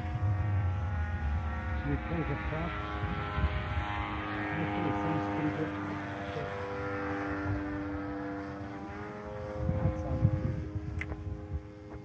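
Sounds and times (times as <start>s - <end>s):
low rumble: 0.0s - 12.0s
model airplane motor drone: 0.0s - 12.0s.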